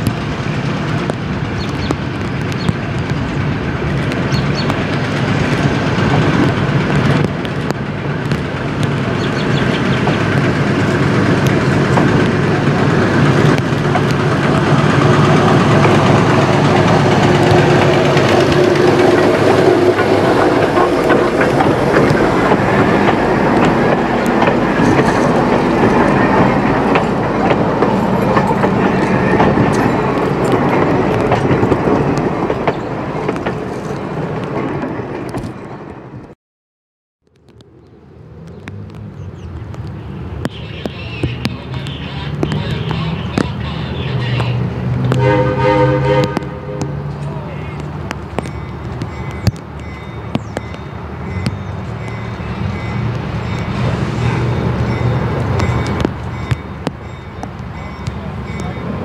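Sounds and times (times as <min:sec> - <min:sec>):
diesel locomotive running: 0:00.0 - 0:36.3, 0:38.9 - 0:59.0
wheels clicking over rail joints: 0:00.0 - 0:36.3, 0:46.2 - 0:59.0.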